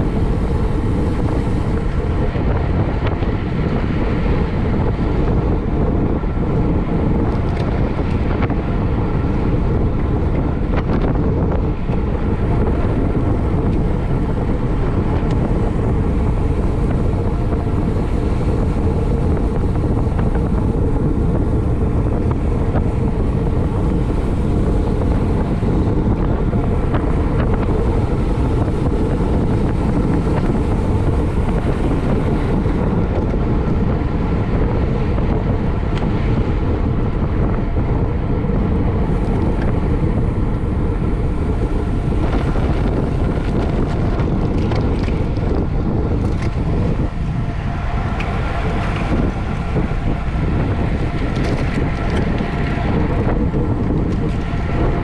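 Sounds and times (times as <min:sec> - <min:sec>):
wind roar on microphone: 0:00.0 - 0:55.0.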